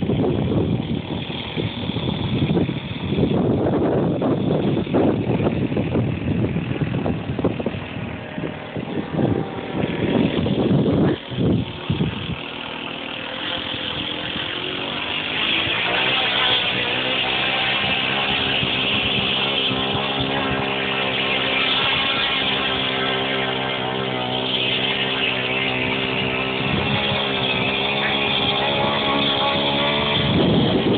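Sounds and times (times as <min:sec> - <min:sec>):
low buffeting: 0:00.0 - 0:30.9
model plane engine drone: 0:00.0 - 0:30.9.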